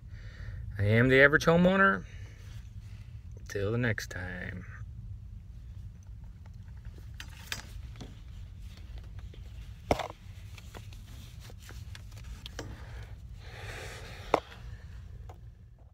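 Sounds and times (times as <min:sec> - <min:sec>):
steady low rumble: 0:00.0 - 0:15.9.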